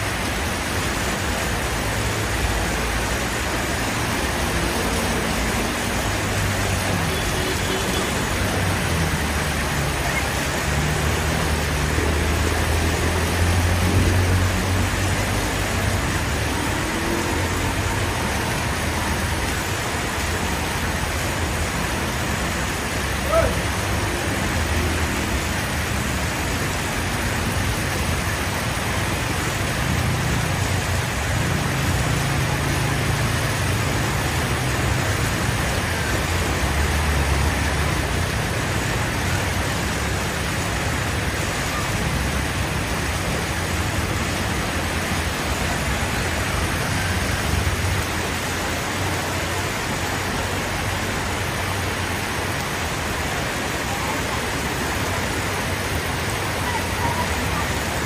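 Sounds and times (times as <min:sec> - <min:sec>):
street traffic hiss: 0:00.0 - 0:58.0.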